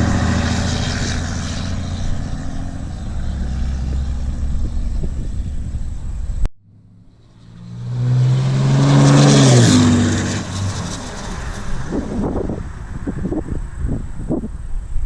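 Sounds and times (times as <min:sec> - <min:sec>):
diesel truck driving past: 0:00.0 - 0:14.3.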